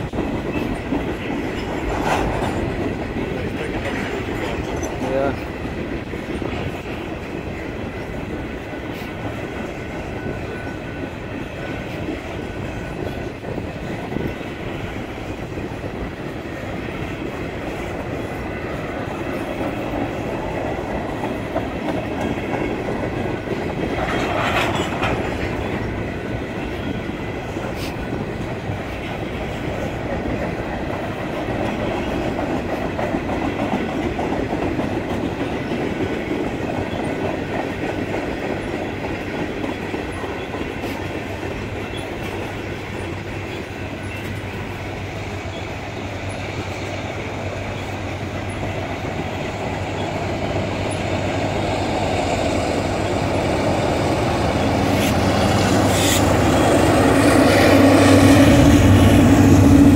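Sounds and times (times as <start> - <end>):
freight train wheels on rail: 0.0 - 59.9.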